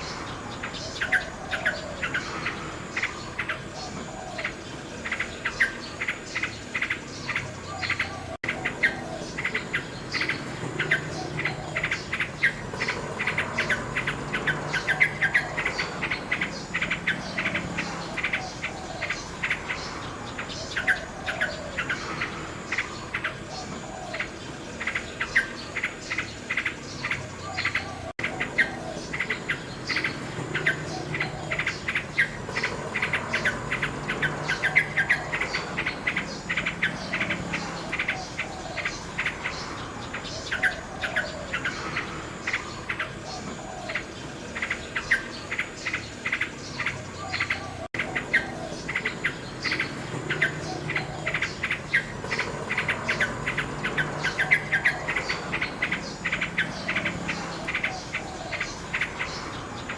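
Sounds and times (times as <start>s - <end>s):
insects trilling: 0.0s - 59.9s
nightingale singing: 0.0s - 59.9s.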